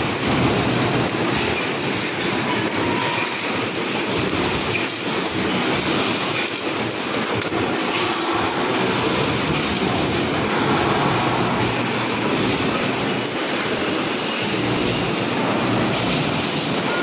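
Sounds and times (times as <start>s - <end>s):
dense mechanical machine noise: 0.0s - 17.0s.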